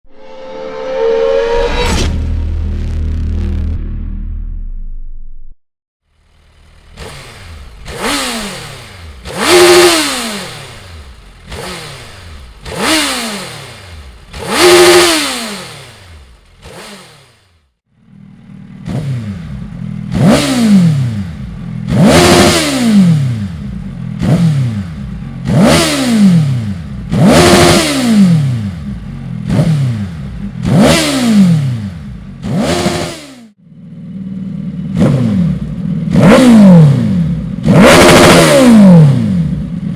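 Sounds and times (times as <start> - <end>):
motorcycle engine revving: 6.0 - 39.9
motorcycle engine idling: 6.1 - 39.9.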